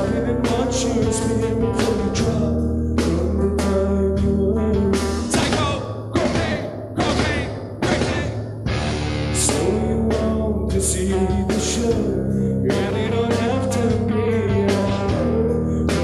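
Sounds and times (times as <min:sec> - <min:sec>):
man singing: 0:00.0 - 0:08.5, 0:09.3 - 0:16.0
live rock band playing: 0:00.0 - 0:16.0.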